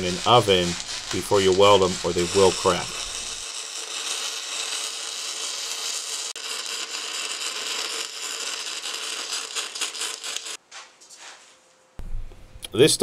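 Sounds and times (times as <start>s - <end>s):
welder arc crackling: 0.0s - 10.6s.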